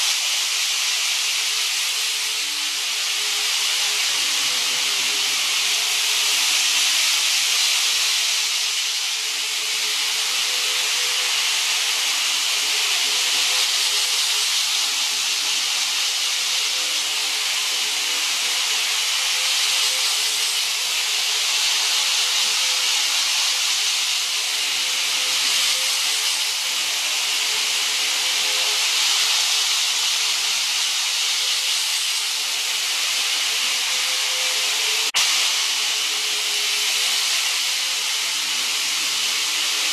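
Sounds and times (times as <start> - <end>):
hiss of wheels on rail: 0.0 - 39.9.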